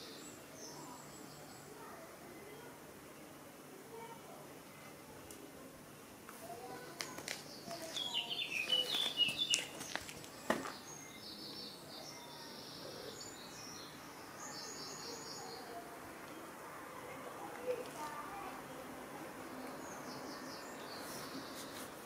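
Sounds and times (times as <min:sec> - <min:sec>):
small birds chirping: 0:00.0 - 0:02.8, 0:06.5 - 0:22.0.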